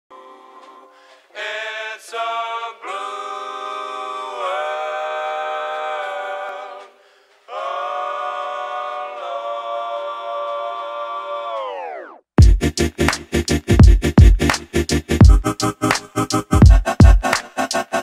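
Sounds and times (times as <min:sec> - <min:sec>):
choir-like vocal chords: 0:00.1 - 0:18.0.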